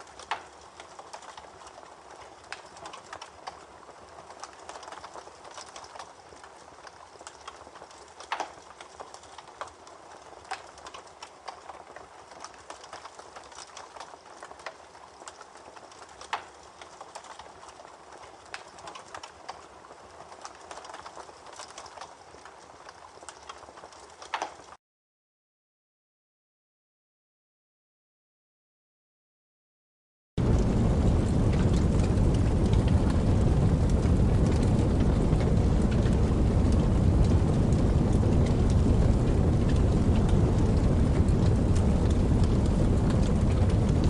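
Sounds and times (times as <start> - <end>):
campfire crackling and popping: 0.0 - 24.8, 30.4 - 44.0.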